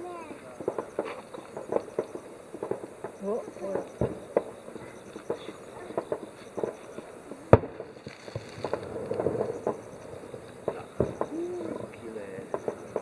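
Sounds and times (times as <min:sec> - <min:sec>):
fireworks popping and cracking: 0:00.0 - 0:13.0
loud firework bang: 0:00.0 - 0:13.0.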